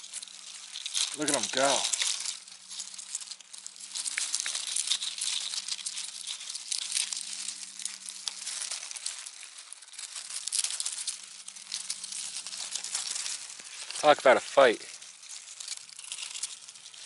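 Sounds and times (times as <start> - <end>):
dry leaves crackling and rustling: 0.0 - 17.0.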